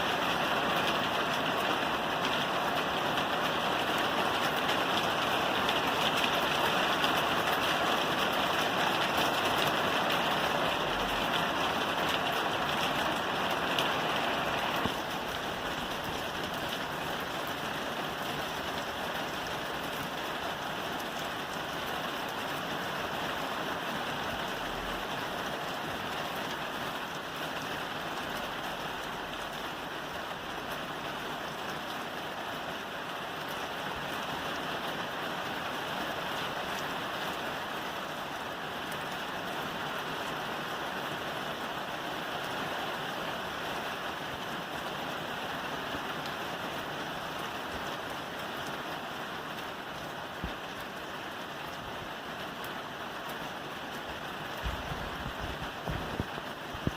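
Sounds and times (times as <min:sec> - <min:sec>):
rain on a roof: 0:00.0 - 0:56.9.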